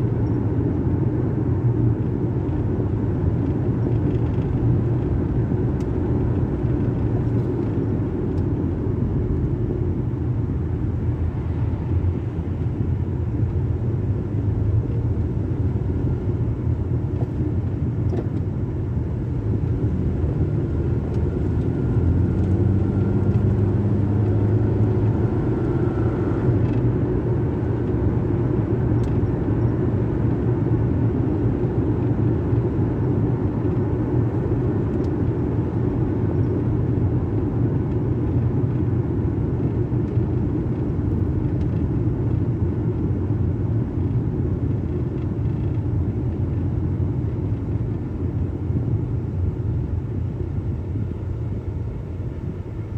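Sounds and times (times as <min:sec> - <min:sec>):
car engine rumble inside cabin: 0:00.0 - 0:52.9.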